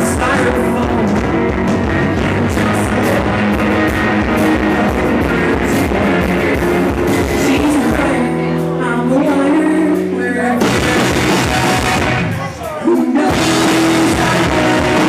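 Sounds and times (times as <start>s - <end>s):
bass guitar: 0.0s - 15.0s
drum kit steady beat: 0.0s - 15.0s
electric guitars: 0.0s - 15.0s.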